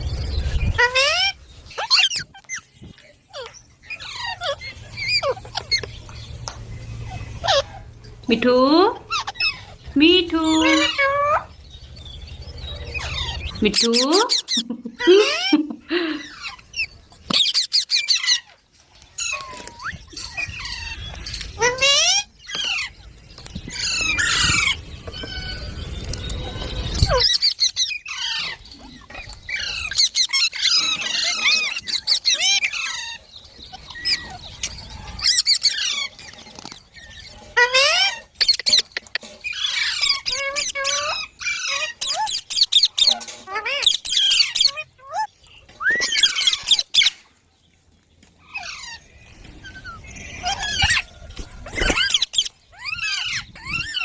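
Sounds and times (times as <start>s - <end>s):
parrots squawking: 0.4s - 2.7s, 3.3s - 8.2s, 8.9s - 11.6s, 12.4s - 23.1s, 23.7s - 47.2s, 48.4s - 54.0s.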